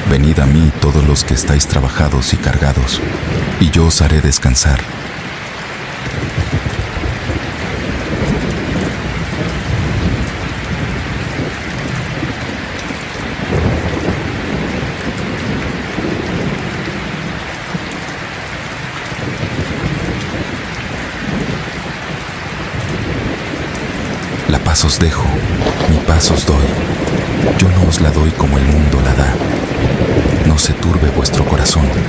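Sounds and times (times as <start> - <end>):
rolling thunder: 0.0 - 3.7, 6.0 - 17.9, 19.1 - 32.0
heavy rain: 0.0 - 32.0.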